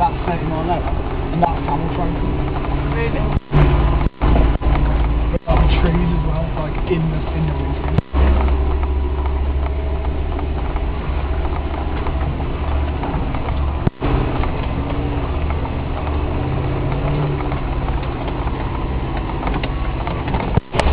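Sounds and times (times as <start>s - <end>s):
engine drone from inside cab: 0.0s - 20.9s
vehicle rattling over rough ground: 0.0s - 20.9s.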